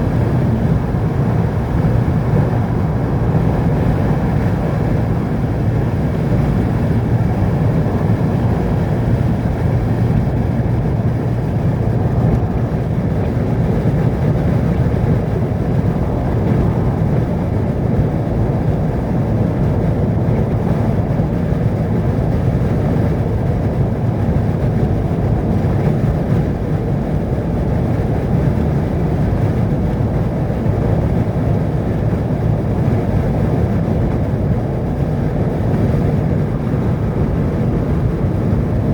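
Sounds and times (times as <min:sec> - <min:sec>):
vehicle driving on road: 0:00.0 - 0:38.9.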